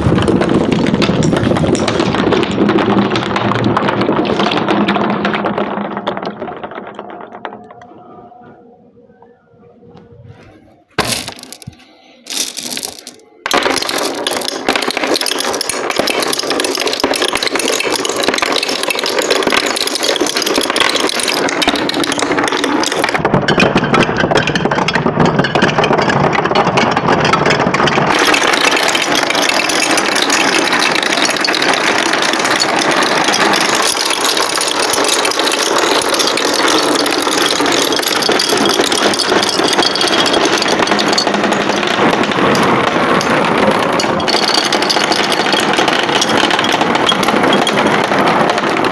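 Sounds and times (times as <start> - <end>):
marbles rattling on plastic track: 0.0 - 8.2, 11.0 - 48.9.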